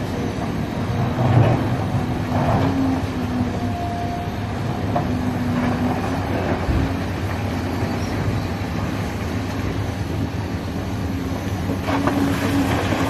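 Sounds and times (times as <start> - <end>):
excavator diesel engine under load: 0.0 - 13.0.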